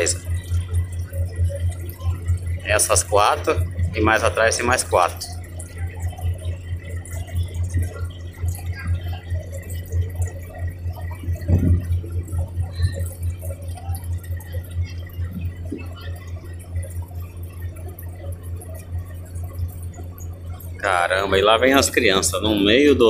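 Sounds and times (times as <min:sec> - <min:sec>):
boat engine throbbing: 0:00.0 - 0:23.0.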